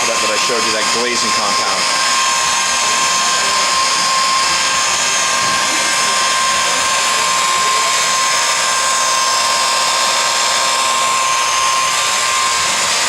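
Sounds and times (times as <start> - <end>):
rotary buffer whining: 0.0 - 13.0.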